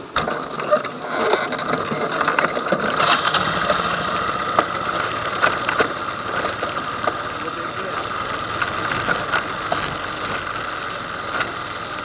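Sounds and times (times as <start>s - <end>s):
atv engine idling: 1.7s - 12.0s.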